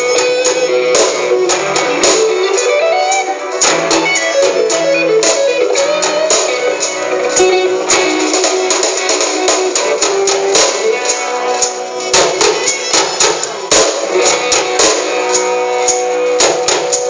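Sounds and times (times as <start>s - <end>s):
percussion steady beat: 0.0s - 17.0s
strummed guitars: 0.0s - 17.0s.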